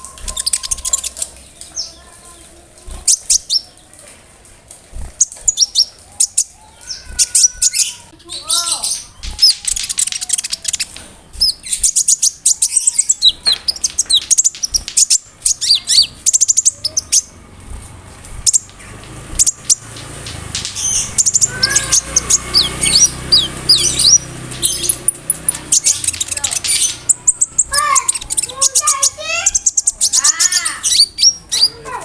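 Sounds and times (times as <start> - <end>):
songbird chirping and trilling: 0.0 - 32.0.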